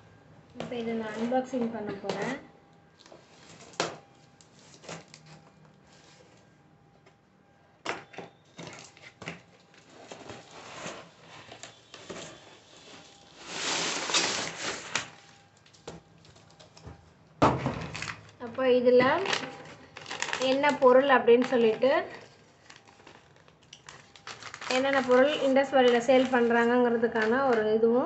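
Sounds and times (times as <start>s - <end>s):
cardboard and packing rustling: 0.6s - 6.6s, 8.5s - 17.0s, 17.7s - 27.5s.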